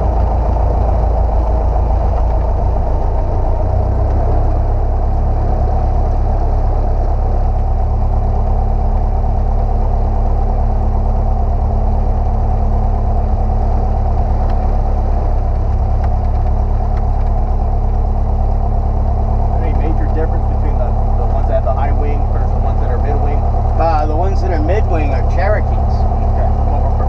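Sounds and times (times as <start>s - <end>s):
light airplane engine running: 0.0s - 27.0s.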